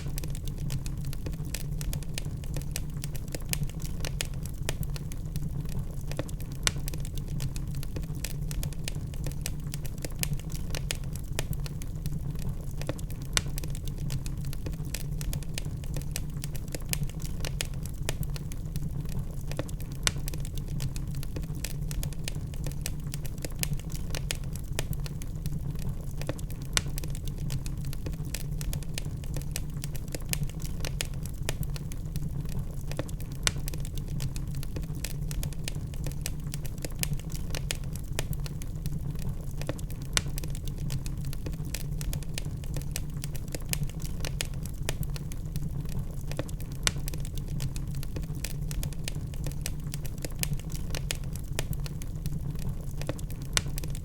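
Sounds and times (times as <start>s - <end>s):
burning logs crackling: 0.0s - 54.0s
steady low rumble of fire: 0.0s - 54.0s.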